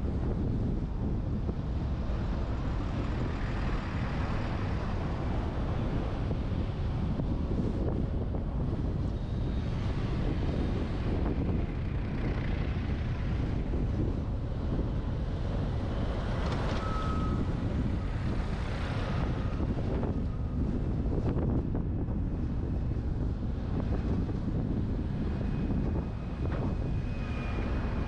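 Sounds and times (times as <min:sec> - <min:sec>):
road and engine rumble: 0:00.0 - 0:28.0
wind buffeting camera: 0:00.0 - 0:28.0.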